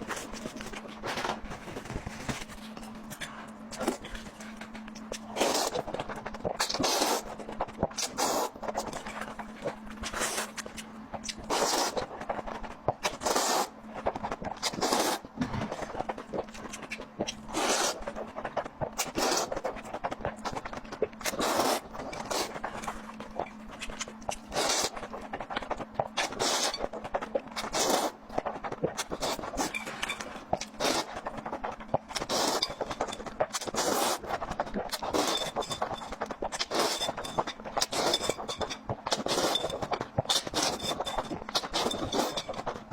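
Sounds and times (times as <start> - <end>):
moist chewing and biting: 0.0 - 42.9.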